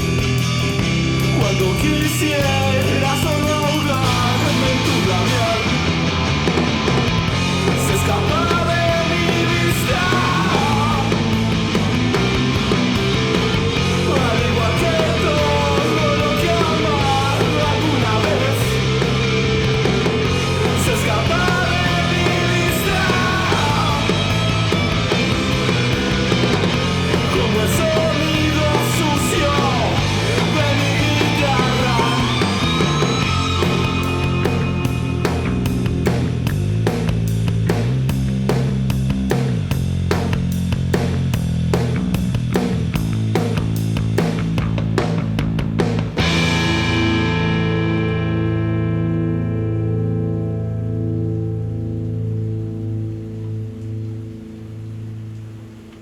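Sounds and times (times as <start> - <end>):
distorted punk rock music: 0.0 - 51.9.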